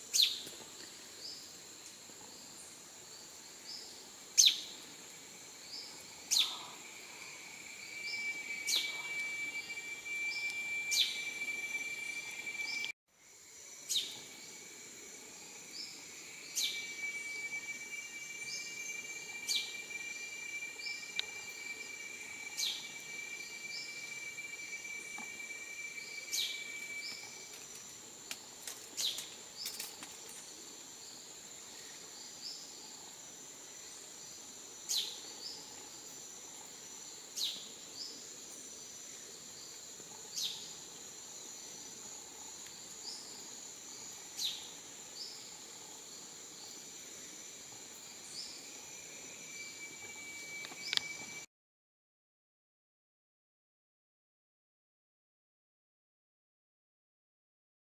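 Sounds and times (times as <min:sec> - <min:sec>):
second insect tone: 0:00.0 - 0:51.5
high-pitched insect drone: 0:02.3 - 0:51.5.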